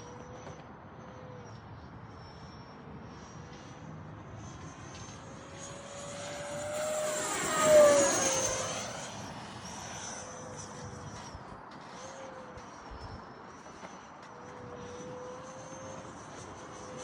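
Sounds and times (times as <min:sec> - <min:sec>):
model jet fans whining flyby: 0:00.0 - 0:17.0.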